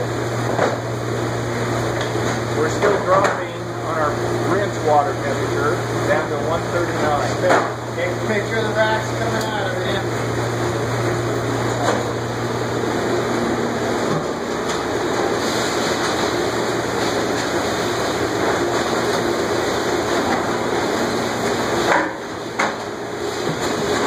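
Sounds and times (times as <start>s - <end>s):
dish machine water rushing: 0.0s - 24.0s.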